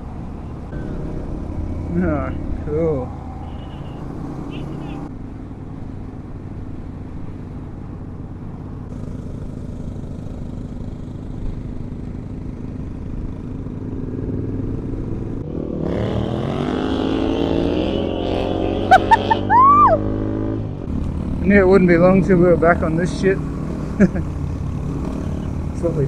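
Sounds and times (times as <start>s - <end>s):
motorcycle engine accelerating: 0.0s - 5.1s, 7.3s - 26.0s
wind and road noise: 0.0s - 26.0s.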